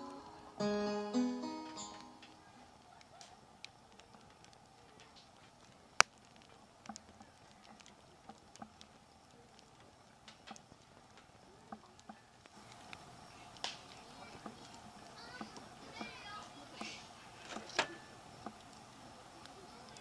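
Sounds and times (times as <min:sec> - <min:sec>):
sharp crack: 0:00.0 - 0:20.0
small clicks and taps: 0:02.0 - 0:20.0.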